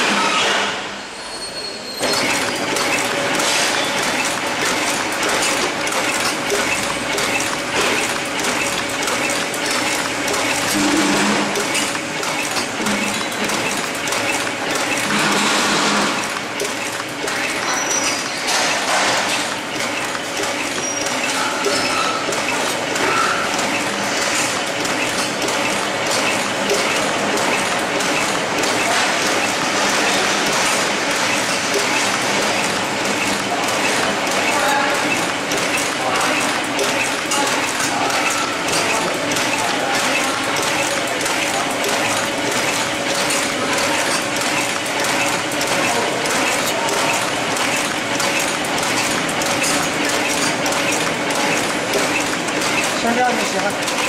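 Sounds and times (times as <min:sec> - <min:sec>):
machine clattering clicks: 0:02.0 - 0:54.0.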